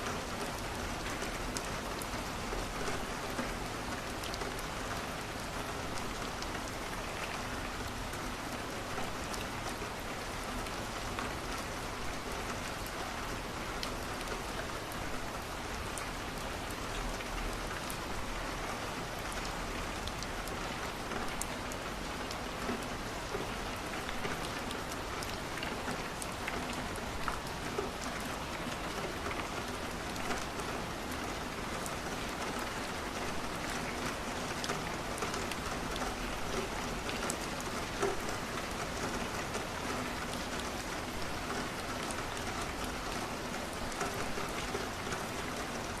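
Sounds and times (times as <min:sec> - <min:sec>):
rain on a window: 0:00.0 - 0:46.0.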